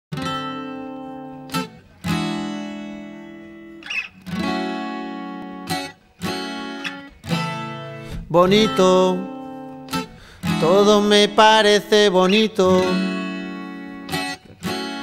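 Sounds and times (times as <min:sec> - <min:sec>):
acoustic guitar strumming chords: 0:00.1 - 0:15.0.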